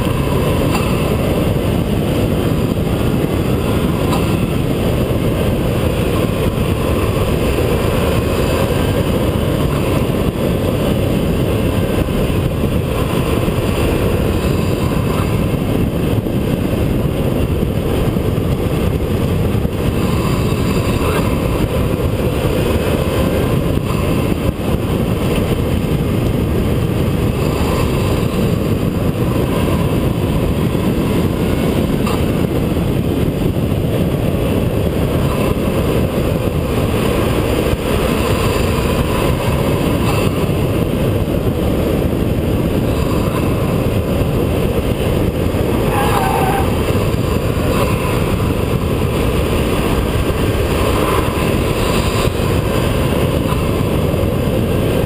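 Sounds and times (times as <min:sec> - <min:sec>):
car intake and turbo noise: 0:00.0 - 0:55.0
low rumble of wind and road: 0:00.0 - 0:55.0.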